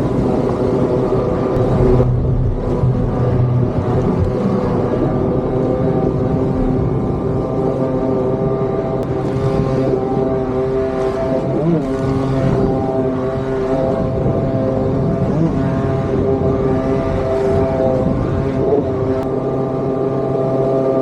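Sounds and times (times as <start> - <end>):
motorised surfboard engine revving: 0.0 - 21.0.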